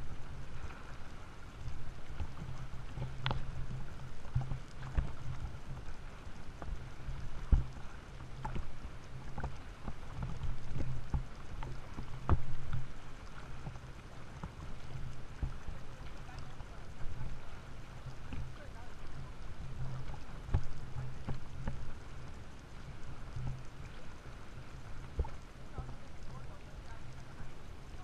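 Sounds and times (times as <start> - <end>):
seawater sloshing and splashing: 0.0 - 28.0.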